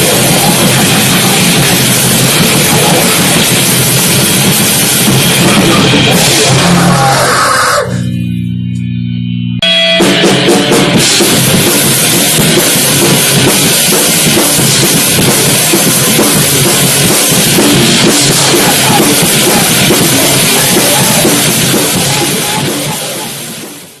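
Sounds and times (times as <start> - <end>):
pounding drum kit: 0.0 - 9.0, 9.6 - 24.0
loud rock music: 0.0 - 24.0.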